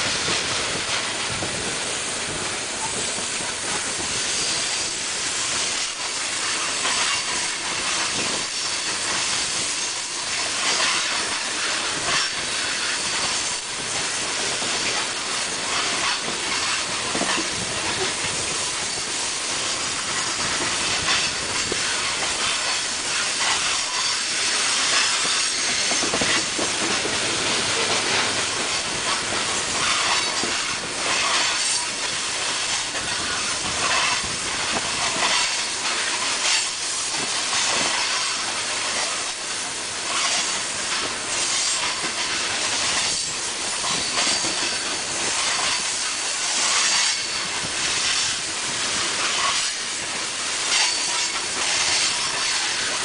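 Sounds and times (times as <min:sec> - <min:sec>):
train wheels rolling on rails: 0:00.0 - 0:53.0
wheels clacking on rails: 0:00.0 - 0:53.0.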